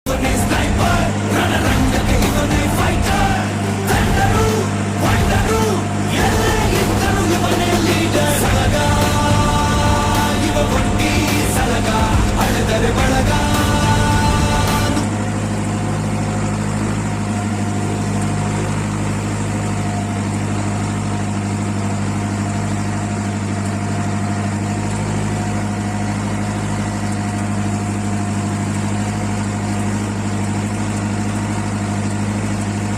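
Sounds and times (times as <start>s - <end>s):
tractor engine idling: 0.0s - 32.9s.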